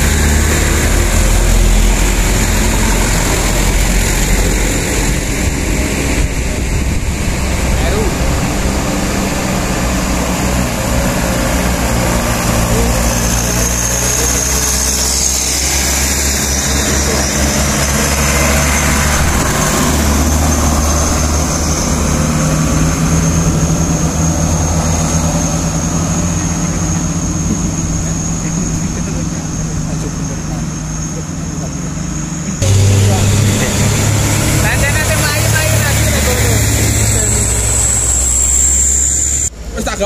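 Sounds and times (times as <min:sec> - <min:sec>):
diesel truck engine climbing: 0:00.0 - 0:40.0.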